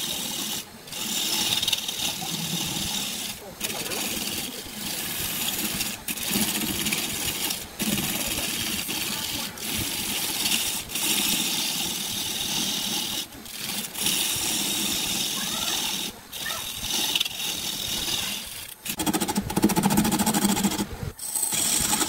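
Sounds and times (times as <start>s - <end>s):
lathe gouge cutting wood: 0.0s - 22.0s.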